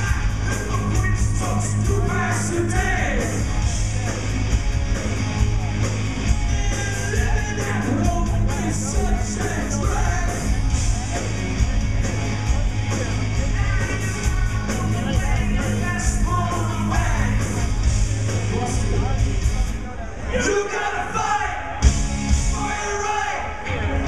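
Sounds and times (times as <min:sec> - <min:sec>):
drum kit with cymbals: 0:00.0 - 0:19.8, 0:21.8 - 0:22.7
electric guitars: 0:00.0 - 0:19.8
bass guitar: 0:00.0 - 0:19.9, 0:21.8 - 0:22.8.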